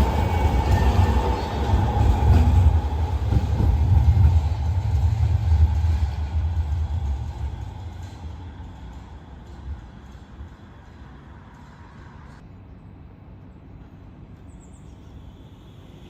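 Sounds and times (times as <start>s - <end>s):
tram rumbling on rails: 0.0s - 16.0s.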